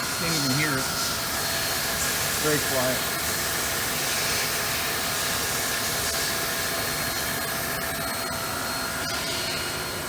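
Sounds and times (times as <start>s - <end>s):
milling machine whirring hiss: 0.0s - 10.0s
workshop noise: 0.0s - 10.0s.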